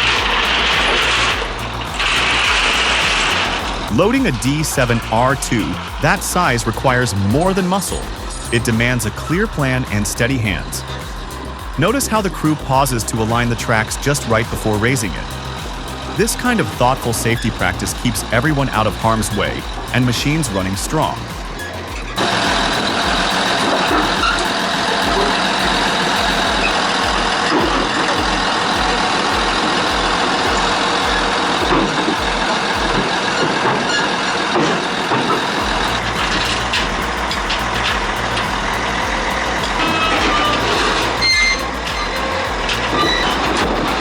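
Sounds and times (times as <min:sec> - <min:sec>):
heavy diesel machinery running: 0:00.0 - 0:44.0.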